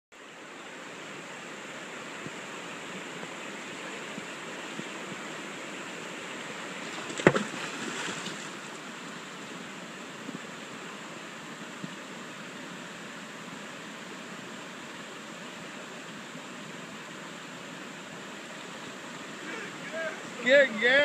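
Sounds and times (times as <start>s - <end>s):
river rapids rushing: 0.2s - 21.0s.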